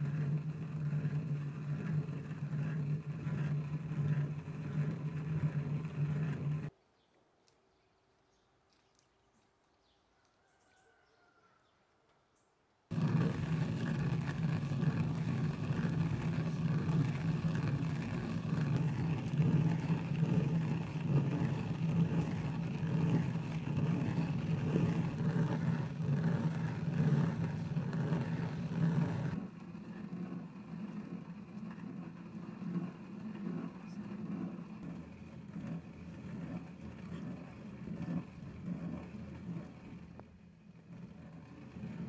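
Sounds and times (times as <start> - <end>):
stone quern grinding rice: 0.0 - 6.7, 12.9 - 42.0.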